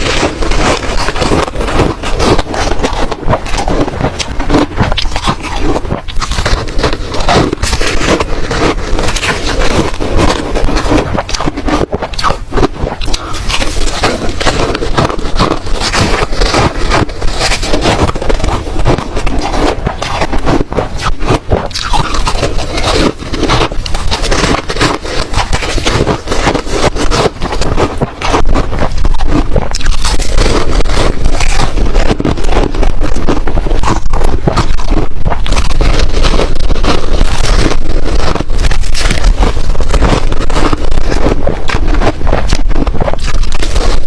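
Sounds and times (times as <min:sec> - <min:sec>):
ice crunching while chewed: 0:00.0 - 0:44.0.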